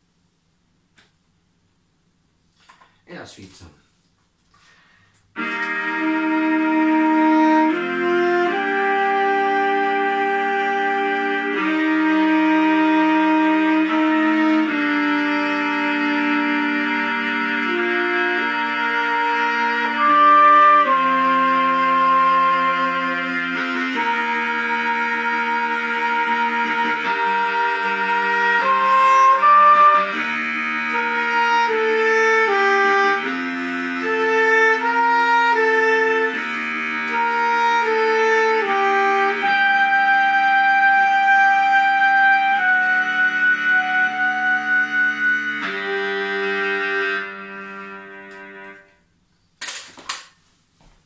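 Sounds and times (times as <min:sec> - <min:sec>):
backing track sustained chords: 0:05.3 - 0:49.0
soprano saxophone melody: 0:05.3 - 0:49.0.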